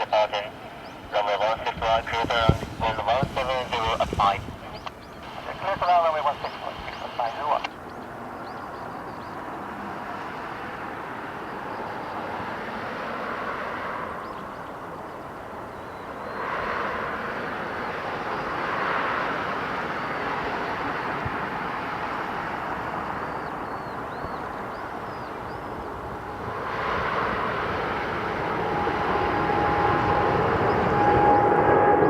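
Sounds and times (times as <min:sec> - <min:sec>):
high engine whine: 0:00.0 - 0:32.0
jet engines running: 0:00.0 - 0:32.0.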